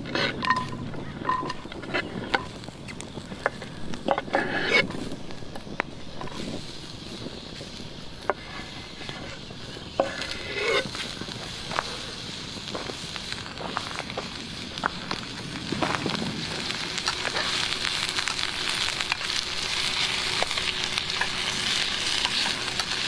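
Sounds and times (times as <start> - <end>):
campfire crackling: 0.0 - 23.0
onions sizzling in oil: 0.0 - 23.0.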